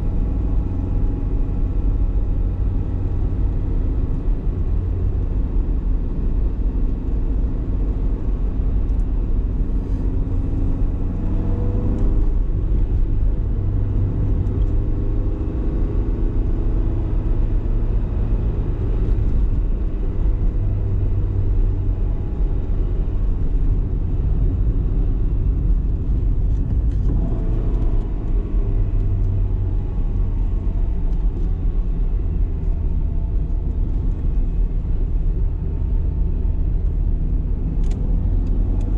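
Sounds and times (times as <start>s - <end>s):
low road noise rumble: 0.0s - 38.9s.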